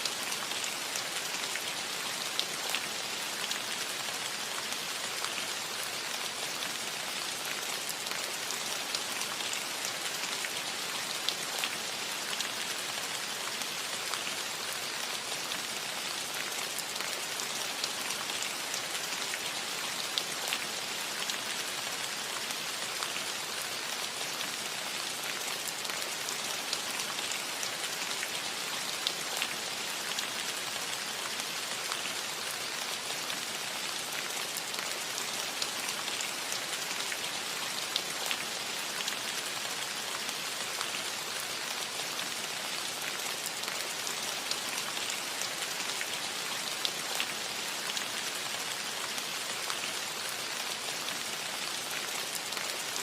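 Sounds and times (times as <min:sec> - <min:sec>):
rain on a metal roof: 0:00.0 - 0:53.0.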